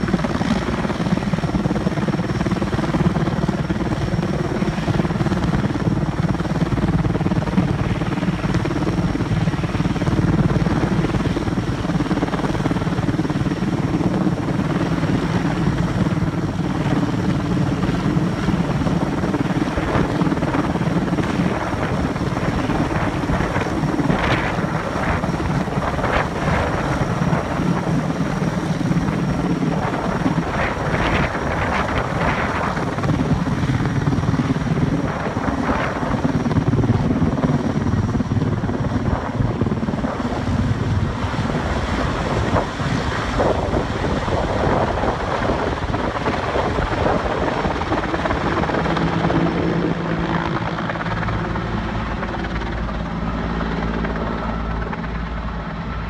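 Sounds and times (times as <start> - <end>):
helicopter rotor and turbine drone: 0.0 - 56.0.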